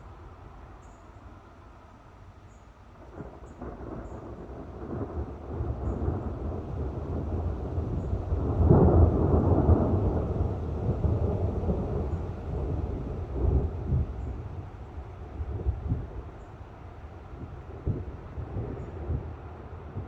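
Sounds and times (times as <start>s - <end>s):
thunder rumbling: 3.0s - 20.0s.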